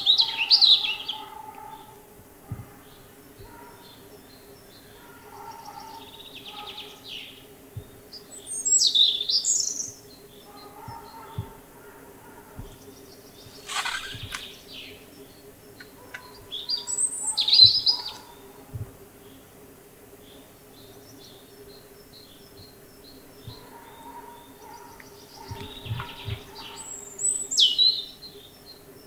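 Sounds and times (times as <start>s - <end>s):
robin singing: 0.0s - 29.0s.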